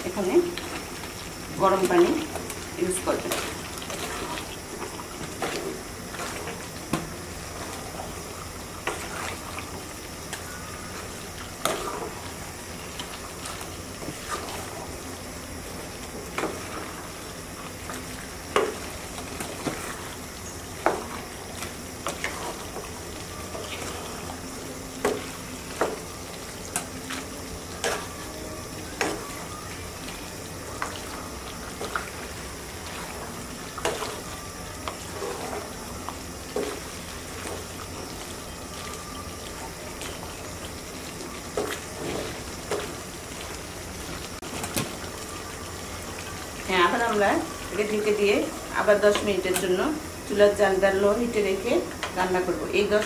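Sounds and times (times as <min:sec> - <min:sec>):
meat bubbling in a pot: 0:00.0 - 0:53.0.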